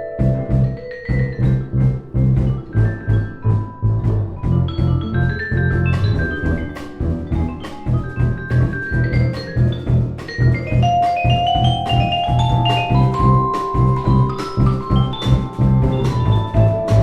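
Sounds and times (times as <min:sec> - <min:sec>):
drums: 0:00.0 - 0:17.0
held melody note: 0:00.0 - 0:17.0
low bass figure: 0:00.0 - 0:17.0
vibraphone: 0:00.0 - 0:17.0.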